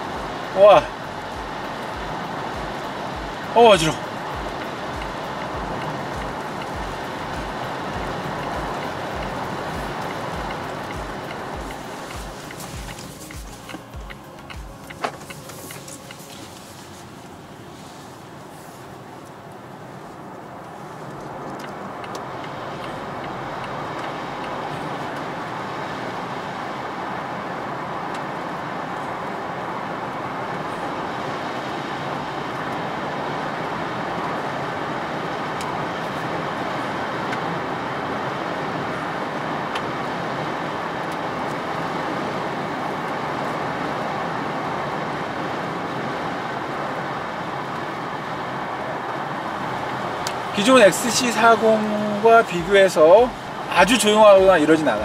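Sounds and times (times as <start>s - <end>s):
tyre and wind noise in car: 0.0s - 55.0s.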